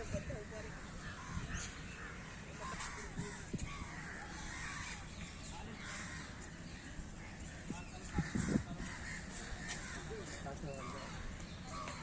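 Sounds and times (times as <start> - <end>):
chorus of birds calling: 0.0 - 12.0.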